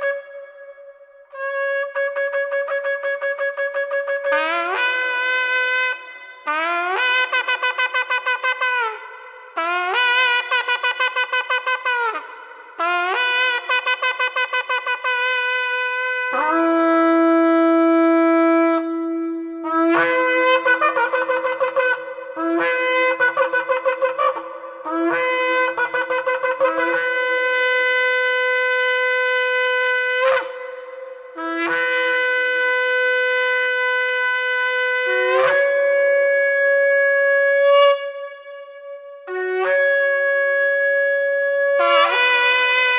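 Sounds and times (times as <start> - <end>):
shofar blasts: 0.0 - 12.2, 12.8 - 42.9.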